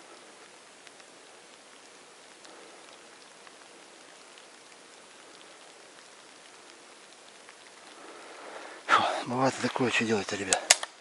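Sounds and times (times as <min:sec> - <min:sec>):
light rain hissing: 0:00.0 - 0:11.0
raindrop ticks: 0:00.0 - 0:11.0.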